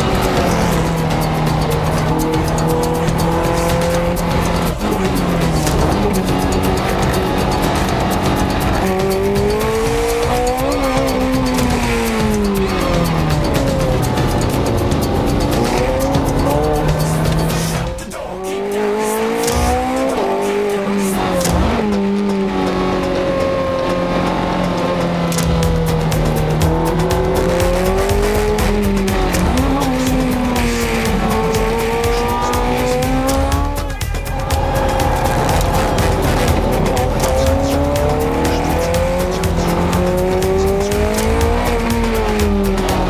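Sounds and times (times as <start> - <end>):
car engine revving in cabin: 0.0 - 33.8, 34.4 - 43.0.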